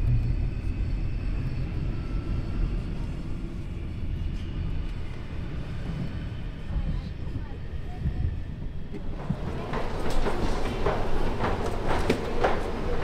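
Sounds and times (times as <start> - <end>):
train rumbling: 0.0 - 13.0
passengers' voices: 1.6 - 13.0.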